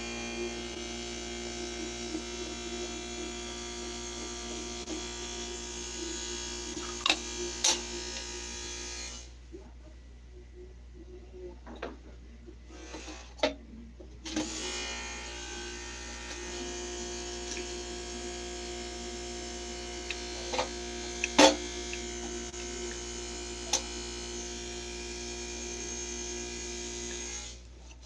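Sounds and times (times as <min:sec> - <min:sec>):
small electric motor humming: 0:00.0 - 0:09.3, 0:14.3 - 0:27.7.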